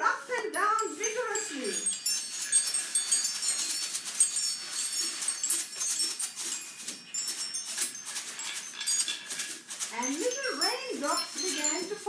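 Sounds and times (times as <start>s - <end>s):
small percussion instruments jingling: 0.0s - 12.0s.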